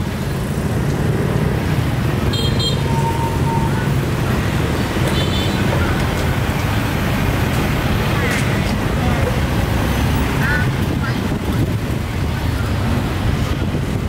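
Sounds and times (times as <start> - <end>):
vehicle engines passing: 0.0 - 14.0.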